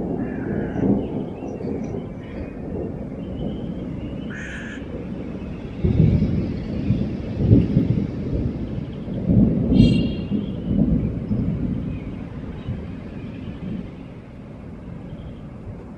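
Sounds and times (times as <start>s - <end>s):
rolling thunder rumble: 0.0s - 15.9s.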